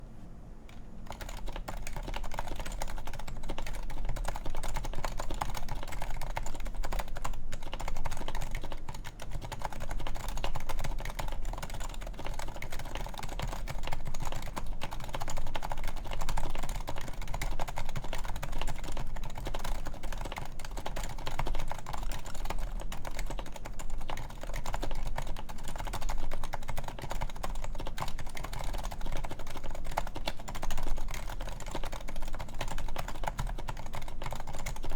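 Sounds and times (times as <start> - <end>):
keyboard typing: 0.7 - 34.9.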